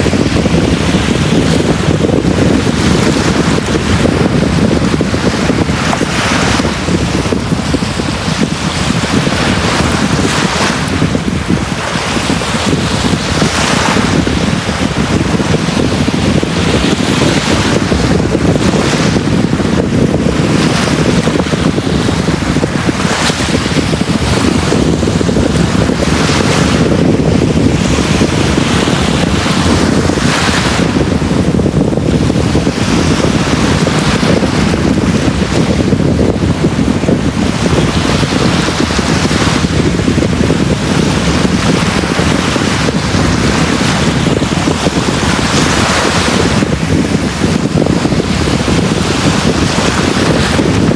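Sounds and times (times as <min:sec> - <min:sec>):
sea waves breaking on beach: 0:00.0 - 0:50.9.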